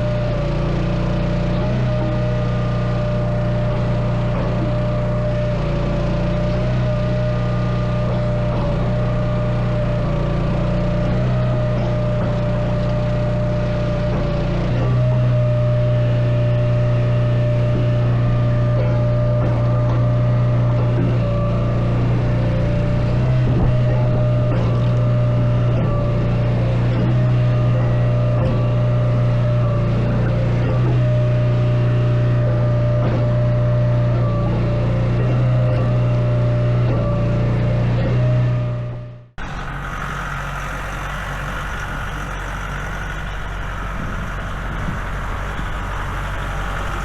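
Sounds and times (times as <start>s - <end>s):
engine running with whine: 0.0s - 47.0s.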